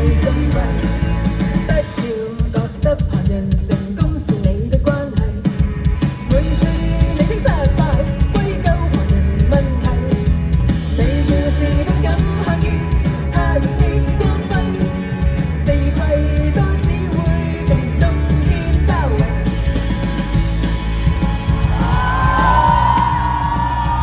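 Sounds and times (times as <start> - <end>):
instrumental rock band playing: 0.0 - 24.0.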